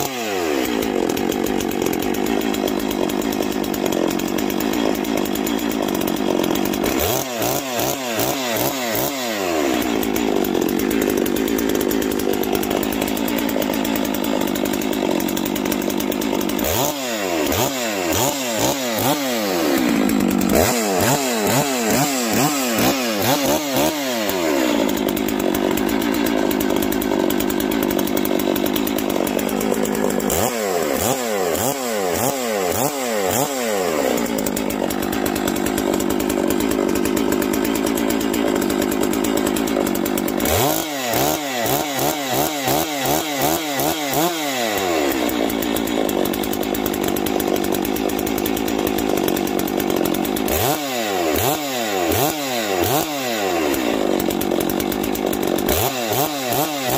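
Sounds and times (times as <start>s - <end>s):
chainsaw idling and revving: 0.0s - 56.9s.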